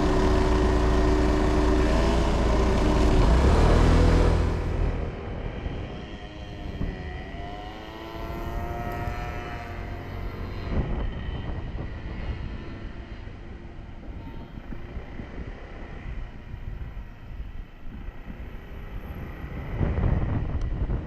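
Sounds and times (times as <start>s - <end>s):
motorcycle engine running: 0.0s - 18.1s
road rumble: 0.0s - 21.0s
wind: 0.0s - 21.0s.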